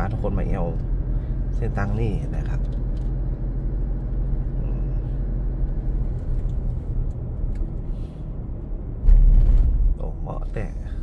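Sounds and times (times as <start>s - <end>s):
car engine and tyre rumble: 0.0s - 11.0s
sudden loud low rumble: 0.0s - 11.0s.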